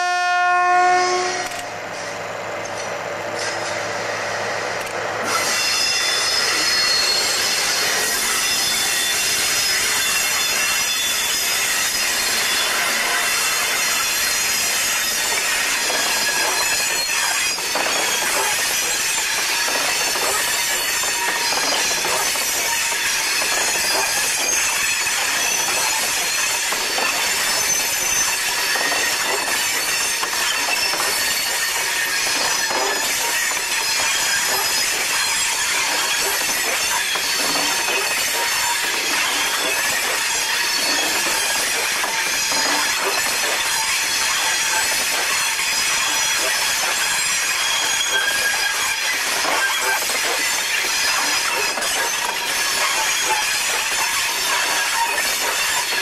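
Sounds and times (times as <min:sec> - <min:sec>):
train wheels rumbling on rails: 0:00.0 - 0:56.0
steel wheels squealing: 0:05.2 - 0:56.0.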